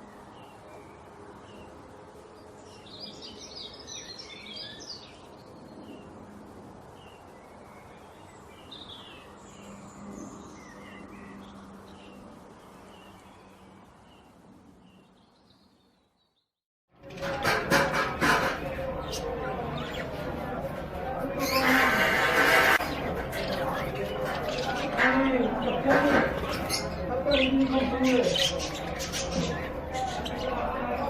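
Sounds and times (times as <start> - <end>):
steady background noise: 0.0 - 15.8, 16.9 - 31.0
songbirds chirping and twittering: 0.0 - 31.0.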